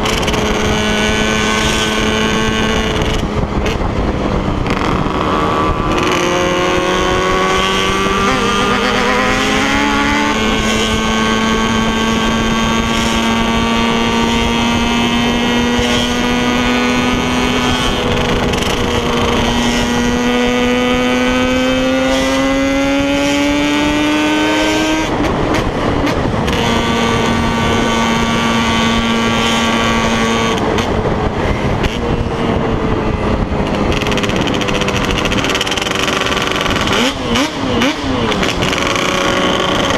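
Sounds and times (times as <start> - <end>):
two-stroke motorcycles revving: 0.0 - 39.9.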